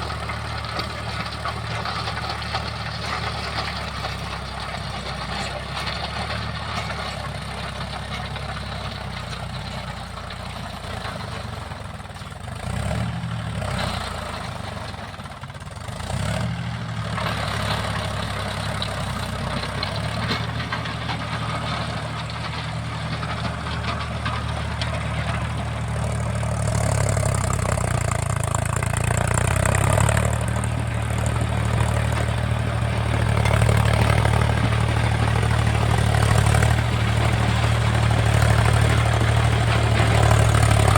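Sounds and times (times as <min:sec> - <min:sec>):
rotavator clatter: 0:00.0 - 0:13.0, 0:17.0 - 0:40.9
tractor diesel engine running: 0:00.0 - 0:40.9.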